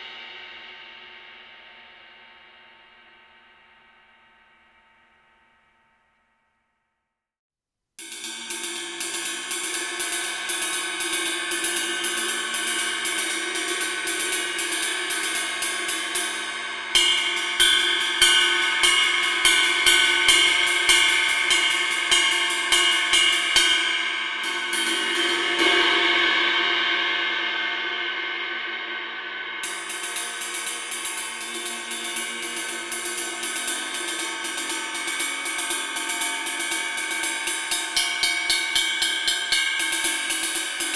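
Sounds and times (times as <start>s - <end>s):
cymbal strikes ringing: 8.0s - 40.9s.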